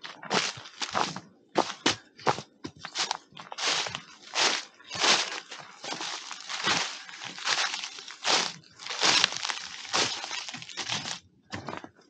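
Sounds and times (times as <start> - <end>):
footsteps crunching through dry leaves: 0.0 - 11.2.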